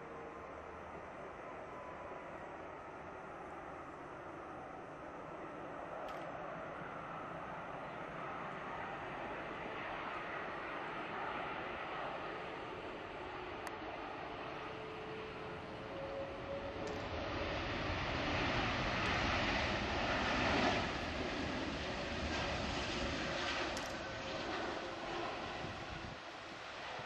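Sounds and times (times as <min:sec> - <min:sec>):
jet engines roaring: 0:04.9 - 0:27.0.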